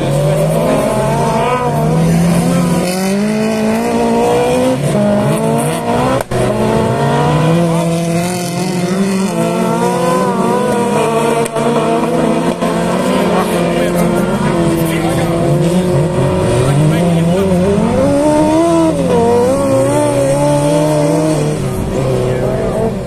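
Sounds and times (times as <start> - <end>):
racing car engines revving: 0.0 - 23.0.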